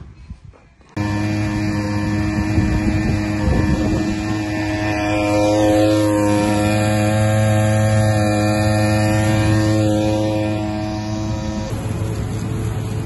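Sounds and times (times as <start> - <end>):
small gasoline engine droning: 0.9 - 13.0.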